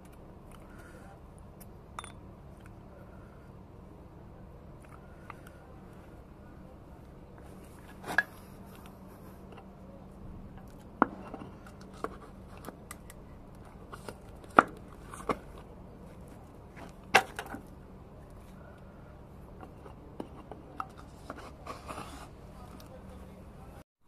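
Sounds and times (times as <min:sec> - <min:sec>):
faint steady hum: 0:00.0 - 0:23.8.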